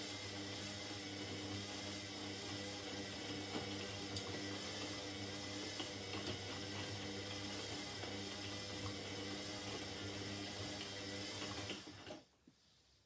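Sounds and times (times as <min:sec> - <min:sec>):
washing machine rushing water: 0:00.0 - 0:12.1.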